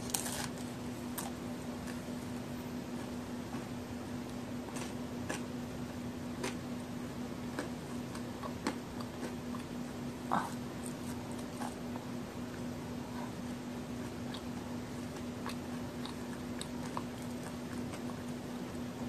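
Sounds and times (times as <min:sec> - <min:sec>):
chewing cookie with crunches: 0:00.0 - 0:19.0
steady low hum: 0:00.0 - 0:19.0.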